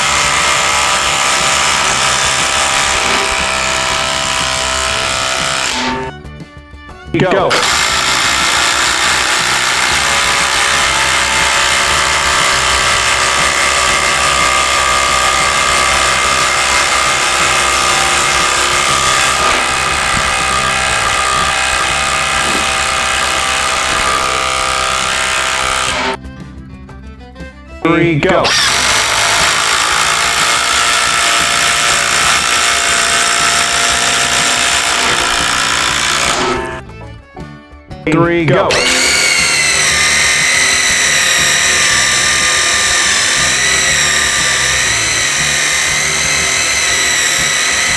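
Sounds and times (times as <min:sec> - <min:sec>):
impact driver hammering: 0:00.0 - 0:06.1, 0:07.5 - 0:26.2, 0:28.5 - 0:36.8, 0:38.7 - 0:47.9.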